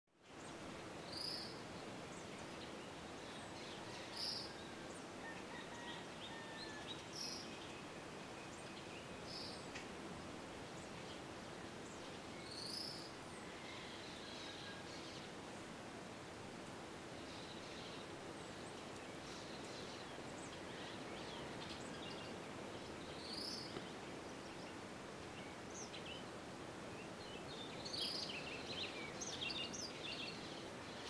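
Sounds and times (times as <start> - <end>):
steady background hiss: 0.2 - 31.0.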